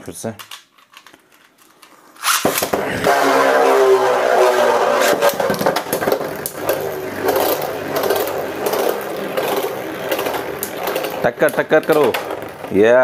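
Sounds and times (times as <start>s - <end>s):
spinning tops whirring: 2.0s - 13.0s
spinning tops colliding: 2.2s - 13.0s.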